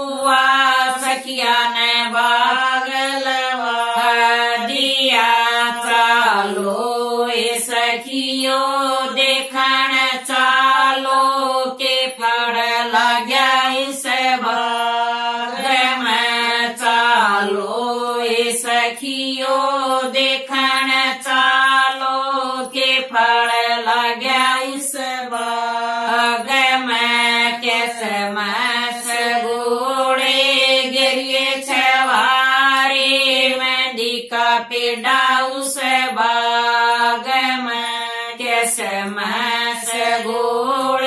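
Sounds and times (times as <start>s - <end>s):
women singing in unison: 0.0s - 41.0s.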